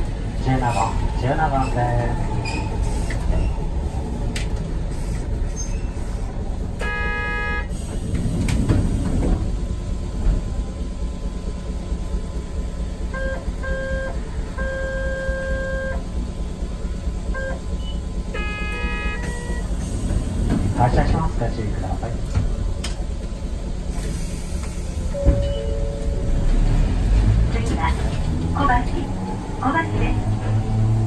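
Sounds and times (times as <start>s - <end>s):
tram rumbling: 0.0s - 31.0s.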